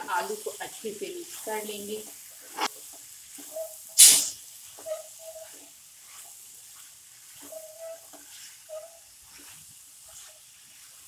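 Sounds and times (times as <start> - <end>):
faint sizzle: 0.0 - 11.0
spatula scraping pan: 0.0 - 11.0.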